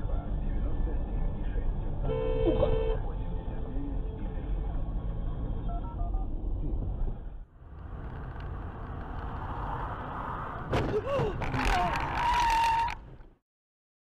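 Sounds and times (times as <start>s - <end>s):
car road and engine noise: 0.0s - 13.4s.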